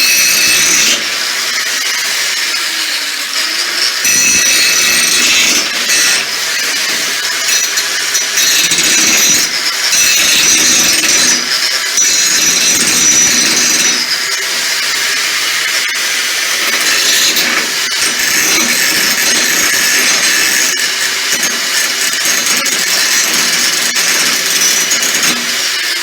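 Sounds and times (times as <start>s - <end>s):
electric grinder grinding steel: 0.0s - 26.0s.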